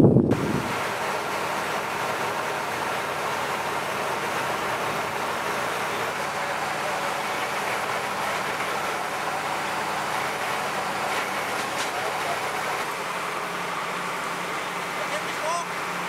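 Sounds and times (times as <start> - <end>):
constant rushing noise: 0.0 - 16.0
engine hum: 0.0 - 16.0
fire crackles: 0.3 - 15.9.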